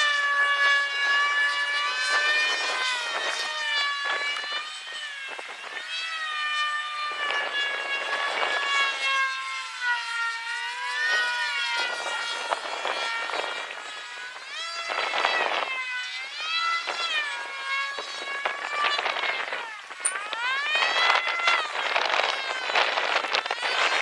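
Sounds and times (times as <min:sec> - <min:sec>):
model airplane motor whining: 0:00.0 - 0:24.0.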